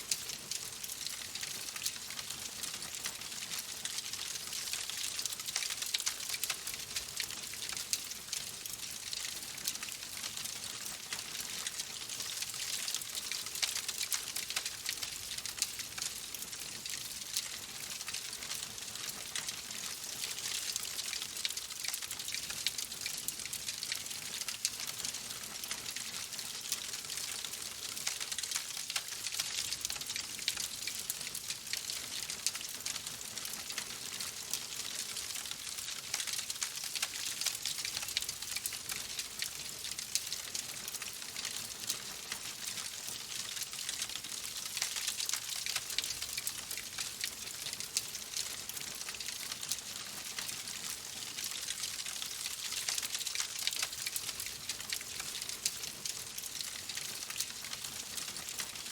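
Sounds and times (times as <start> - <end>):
wood fire crackling: 0.1 - 16.6, 17.4 - 51.0, 51.8 - 58.8.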